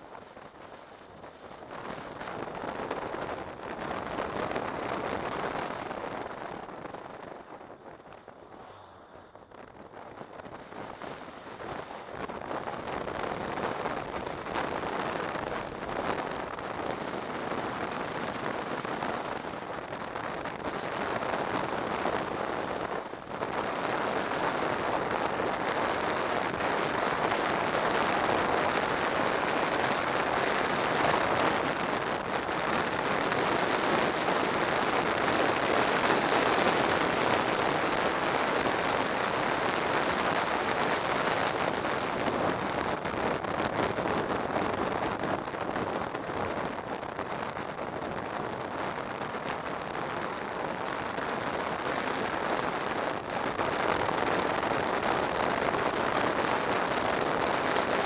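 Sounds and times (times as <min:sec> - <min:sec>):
road noise: 0:00.0 - 0:58.0
wind rushing over microphone: 0:00.0 - 0:58.0.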